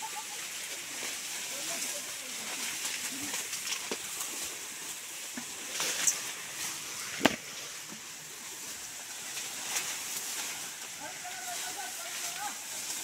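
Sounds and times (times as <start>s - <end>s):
tall grass rustling: 0.0s - 13.0s.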